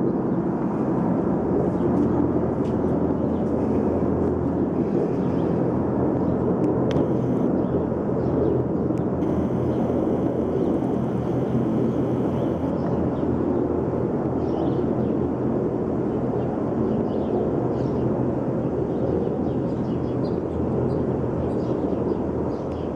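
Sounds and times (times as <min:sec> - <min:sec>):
helicopters droning overhead: 0:00.0 - 0:22.9.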